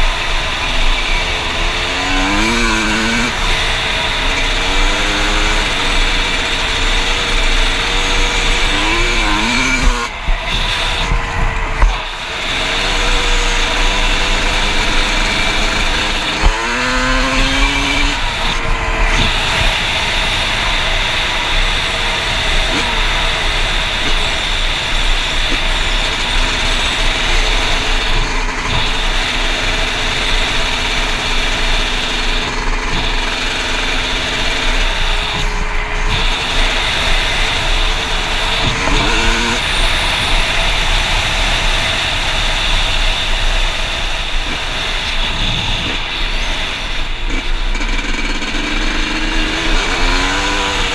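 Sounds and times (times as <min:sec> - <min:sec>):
dirt bike engine revving: 0:00.0 - 0:50.9
wind noise: 0:00.0 - 0:50.9.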